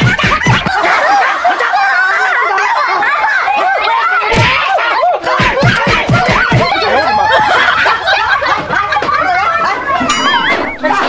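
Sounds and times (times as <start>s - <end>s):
people laughing and giggling: 0.0s - 11.0s.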